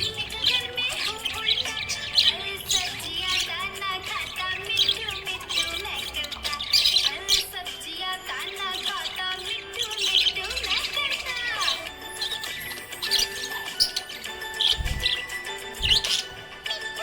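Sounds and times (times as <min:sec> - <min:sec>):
budgerigar warbling and chirping: 0:00.0 - 0:17.0.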